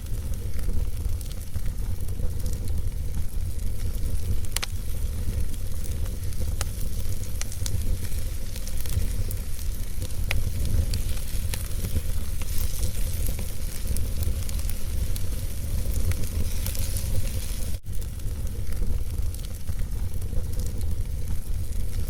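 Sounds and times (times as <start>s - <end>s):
fire crackling and popping: 0.0s - 22.0s
fire rumbling in fireplace: 0.0s - 22.0s.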